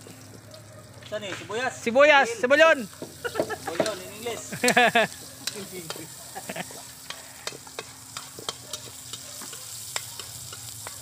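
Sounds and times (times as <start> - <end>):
garlic and onion sizzling: 0.0 - 11.0.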